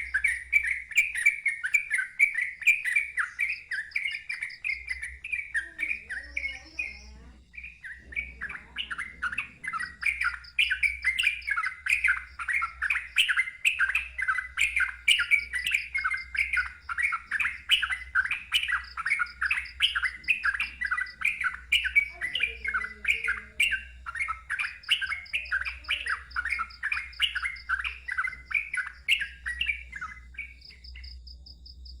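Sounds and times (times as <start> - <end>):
bird singing rolling notes: 0.0 - 31.6.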